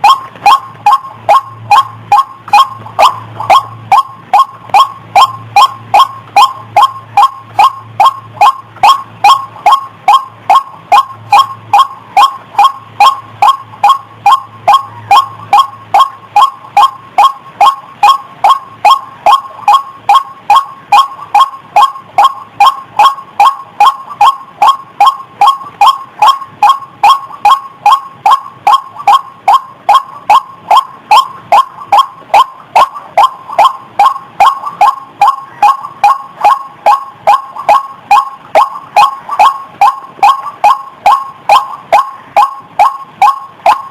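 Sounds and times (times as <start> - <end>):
waterhen croaking calls: 0.0 - 43.9.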